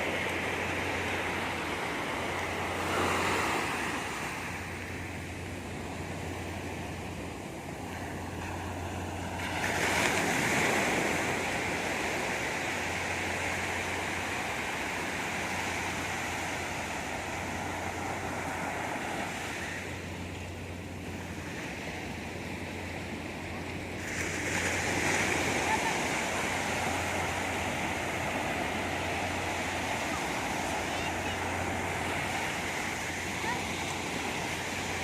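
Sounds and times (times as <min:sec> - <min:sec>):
sea surf washing on shore: 0:00.0 - 0:35.0.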